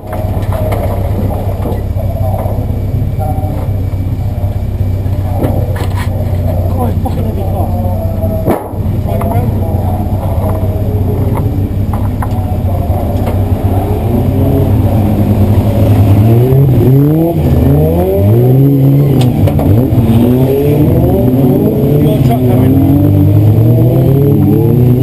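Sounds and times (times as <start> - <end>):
race car engine idling and revving: 0.0 - 25.0.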